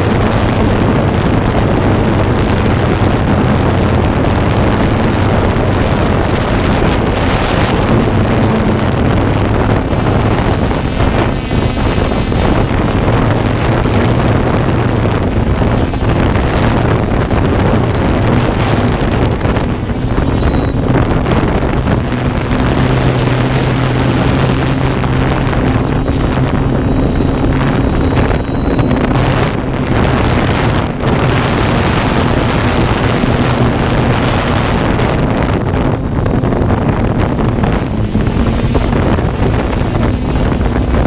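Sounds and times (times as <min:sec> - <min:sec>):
drone motors humming: 0:00.0 - 0:41.0
wind rushing over microphone: 0:00.0 - 0:41.0.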